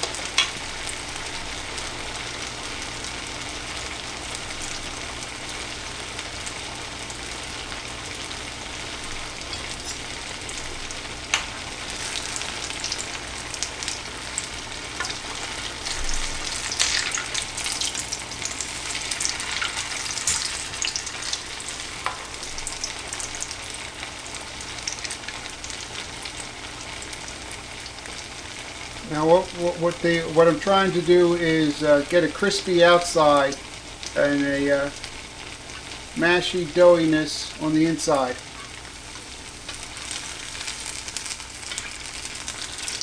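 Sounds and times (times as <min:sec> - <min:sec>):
hot oil sizzling: 0:00.0 - 0:43.0.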